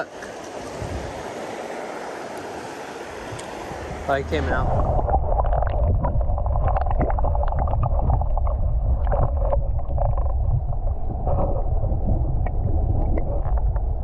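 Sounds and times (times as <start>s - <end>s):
muffled river current rushing: 0.0s - 14.0s.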